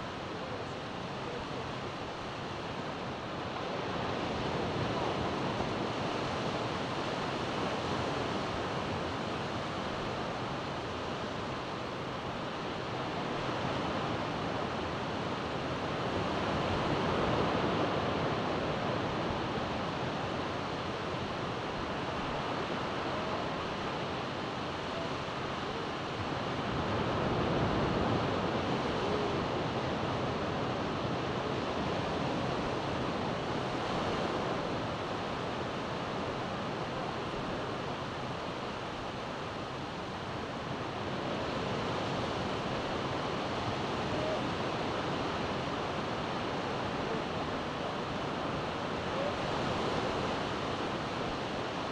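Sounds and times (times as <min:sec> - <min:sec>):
ocean surf washing on beach: 0:00.0 - 0:51.9.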